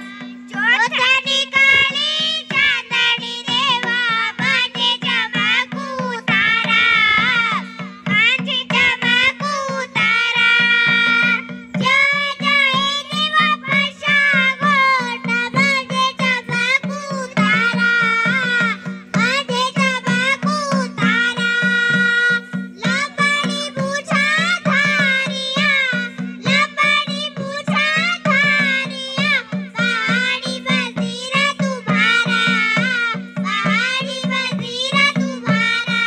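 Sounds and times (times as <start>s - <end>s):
quick drum beat: 0.1s - 36.0s.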